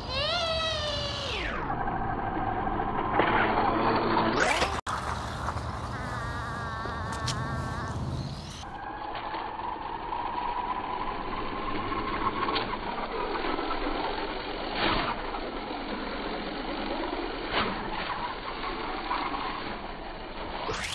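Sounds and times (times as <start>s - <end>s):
toy truck motor whining: 0.0s - 17.4s.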